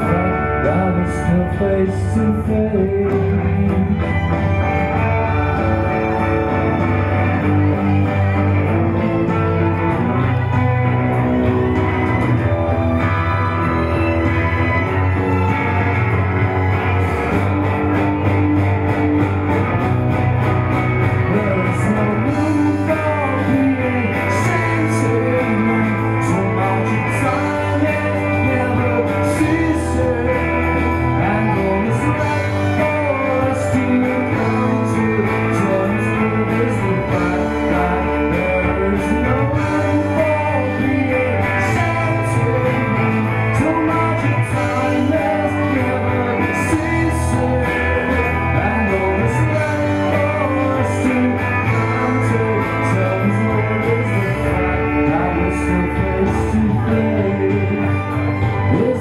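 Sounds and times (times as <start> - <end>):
man singing: 0.0 - 15.9, 21.0 - 59.0
electric guitar: 0.0 - 59.0
low bass notes: 0.0 - 59.0.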